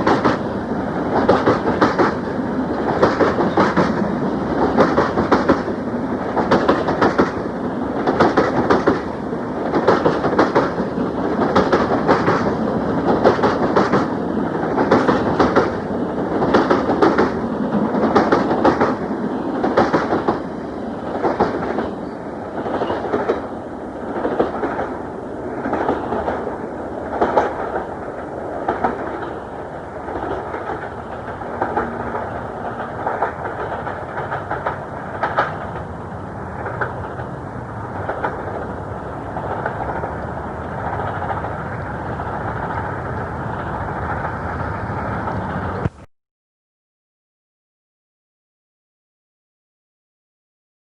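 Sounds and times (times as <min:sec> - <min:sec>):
train wheels clattering over rails: 0:00.0 - 0:45.9.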